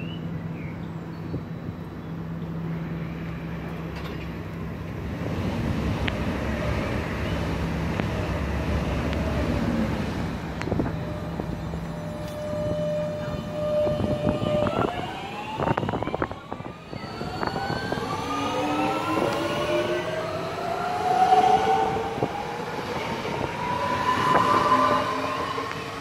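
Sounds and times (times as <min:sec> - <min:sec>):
electric train humming and rumbling: 0:00.0 - 0:26.0.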